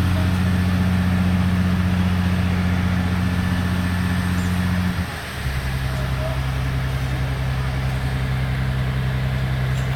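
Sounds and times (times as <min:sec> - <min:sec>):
engine humming: 0:00.0 - 0:09.9.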